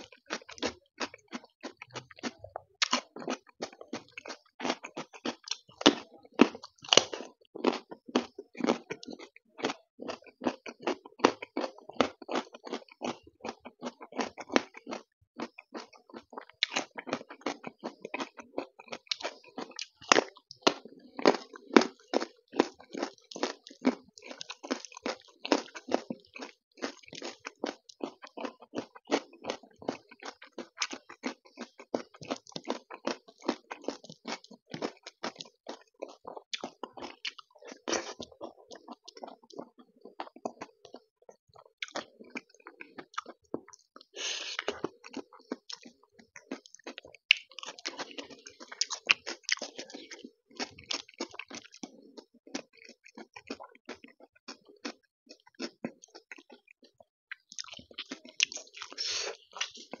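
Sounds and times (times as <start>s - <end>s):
chewing and lip smacks: 0.0s - 60.0s.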